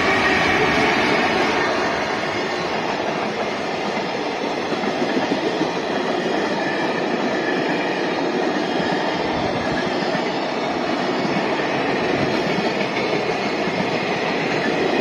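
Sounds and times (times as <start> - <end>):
train wagons rolling past: 0.0 - 15.0.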